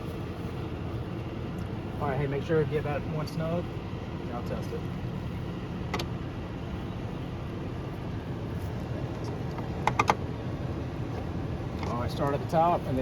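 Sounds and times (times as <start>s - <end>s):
idling vehicle rumble: 0.0s - 13.0s.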